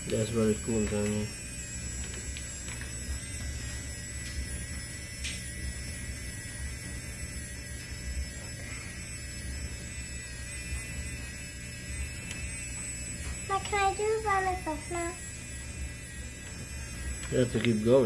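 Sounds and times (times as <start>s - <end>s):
small motor whining: 0.0s - 18.0s.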